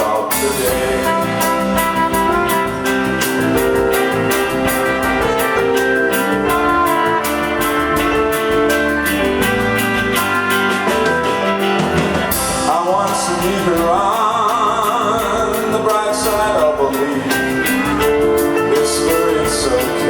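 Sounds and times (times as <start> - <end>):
drum kit with cymbals: 0.0 - 20.0
electric guitars: 0.0 - 20.0.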